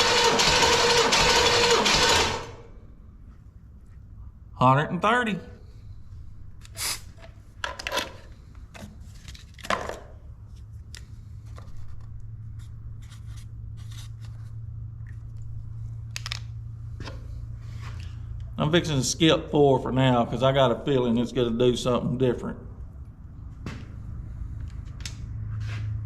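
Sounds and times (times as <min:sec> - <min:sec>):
steady low hum: 0:02.1 - 0:07.6, 0:08.2 - 0:26.0.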